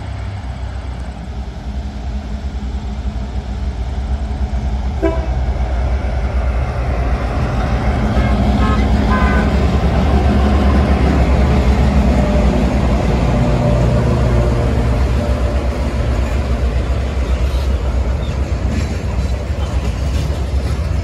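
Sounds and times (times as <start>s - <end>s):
locomotive engines humming: 0.0s - 21.0s.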